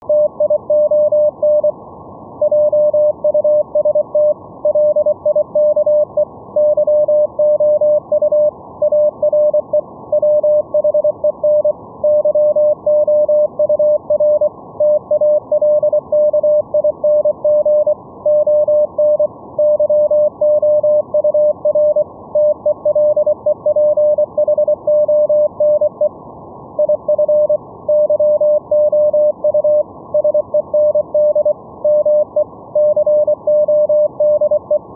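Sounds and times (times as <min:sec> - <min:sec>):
morse code tone: 0:02.4 - 0:26.0, 0:26.8 - 0:34.8.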